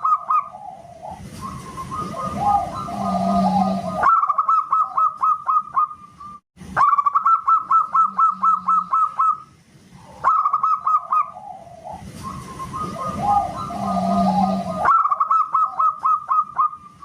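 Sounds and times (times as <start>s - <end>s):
dove cooing whistle-like notes: 0.0s - 17.0s
low warbling bird call: 0.0s - 17.0s.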